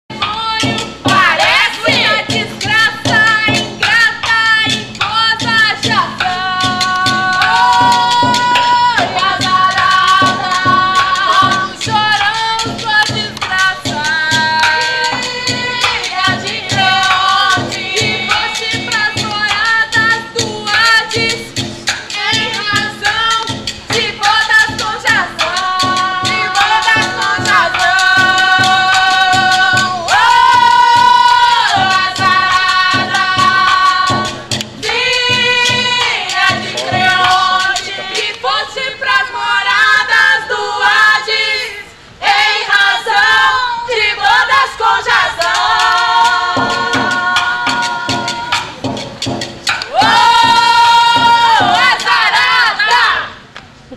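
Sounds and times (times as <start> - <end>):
beat struck on metal barrel: 0.1 - 38.4, 45.4 - 52.6
women singing a chant: 0.1 - 49.0, 49.8 - 53.4.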